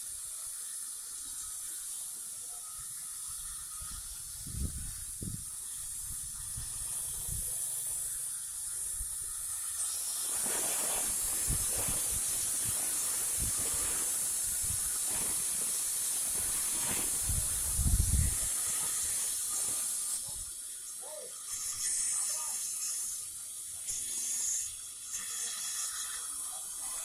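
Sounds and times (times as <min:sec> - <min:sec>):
steady hissing rush: 0:00.0 - 0:27.0.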